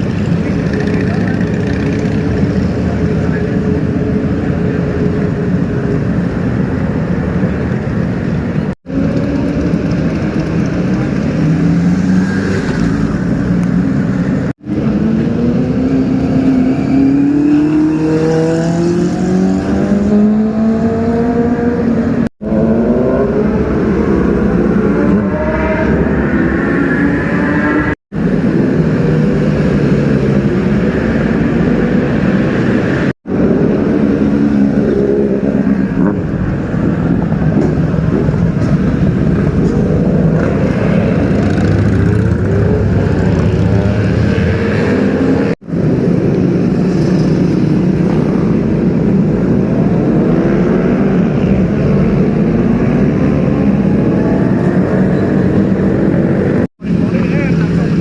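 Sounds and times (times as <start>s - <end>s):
superbike engines revving: 0.0s - 58.0s.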